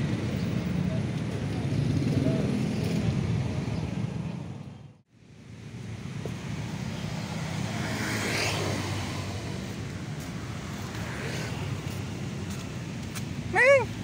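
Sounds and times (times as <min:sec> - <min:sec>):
rumble of cars on road: 0:00.0 - 0:14.0.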